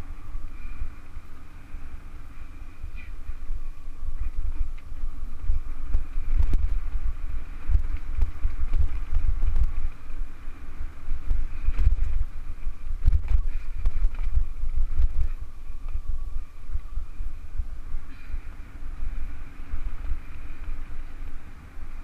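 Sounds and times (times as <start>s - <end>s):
bike knocking and rattling: 0.0s - 22.0s
wind buffeting microphone: 0.0s - 22.0s.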